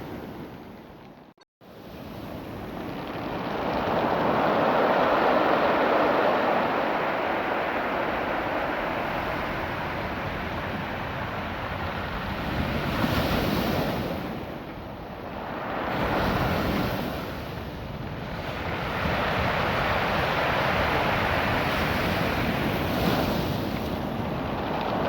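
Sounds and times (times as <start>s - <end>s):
surf washing over pebbles: 1.8s - 25.0s.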